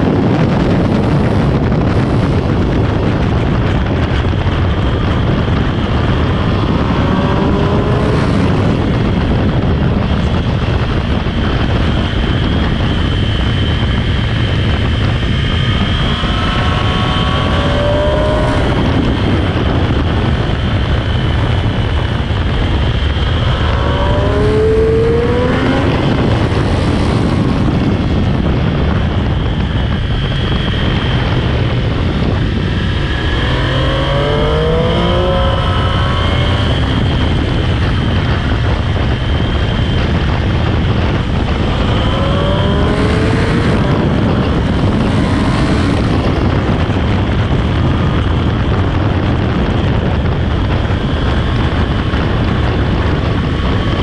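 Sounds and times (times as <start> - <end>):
heavy wind rush: 0.0 - 54.0
motorcycle engine accelerating: 0.0 - 54.0.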